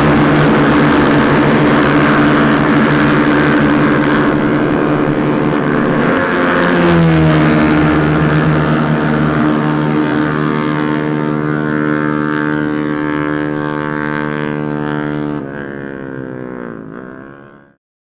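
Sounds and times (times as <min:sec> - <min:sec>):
motorcycle engine at high revs: 0:00.0 - 0:17.3.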